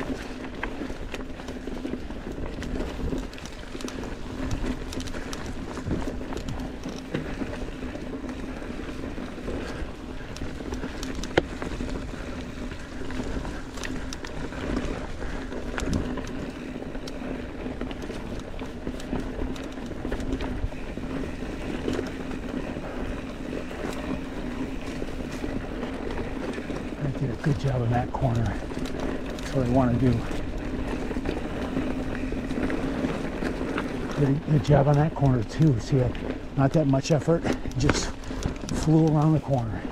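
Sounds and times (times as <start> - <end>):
bike rattles and clicks: 0.0 - 39.9
bike tyre and wind noise: 0.0 - 39.9.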